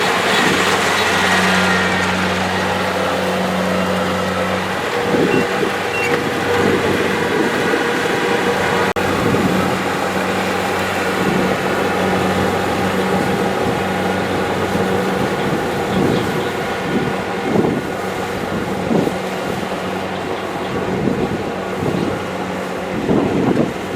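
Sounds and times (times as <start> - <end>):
combine harvester running: 0.0 - 23.9.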